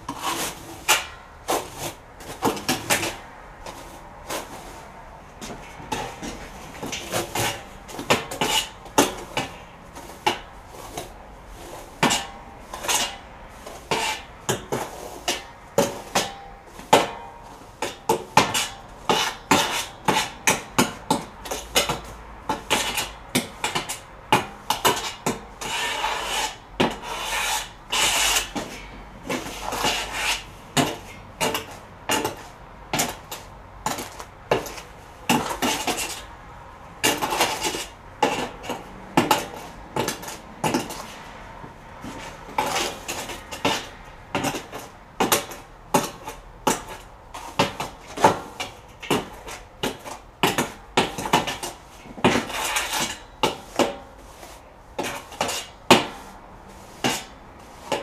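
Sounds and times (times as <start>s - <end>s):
tool scraping inside steel barrel: 0.0s - 16.9s, 18.3s - 20.7s, 24.7s - 36.4s, 42.0s - 58.0s.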